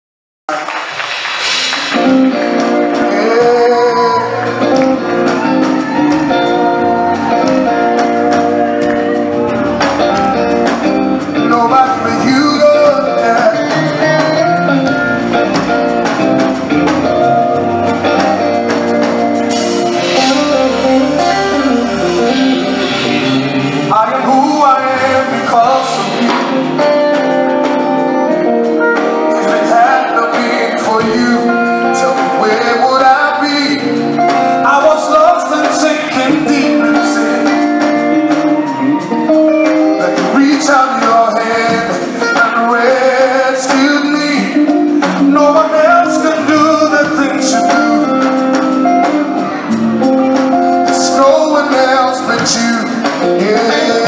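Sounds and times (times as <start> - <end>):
drums: 0.5 - 54.0
electric guitar: 0.5 - 54.0
man singing: 1.9 - 8.2, 11.2 - 15.6, 19.5 - 28.4, 29.0 - 54.0.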